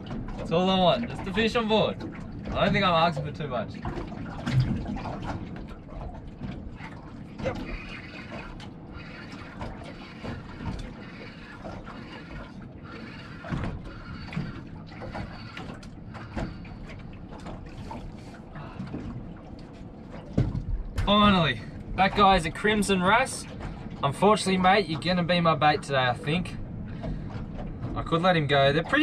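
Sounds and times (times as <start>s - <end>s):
water lapping against boat hull: 0.0s - 29.0s.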